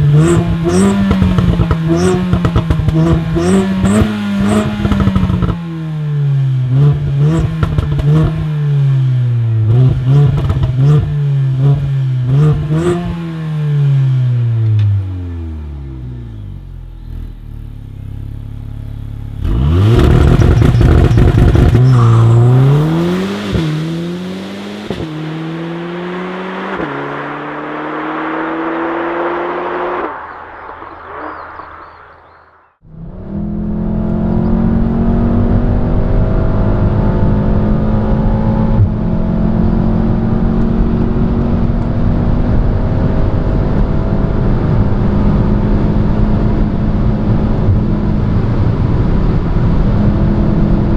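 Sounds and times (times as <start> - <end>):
car engine accelerating: 0.0 - 50.9
road and wind noise: 0.0 - 50.9.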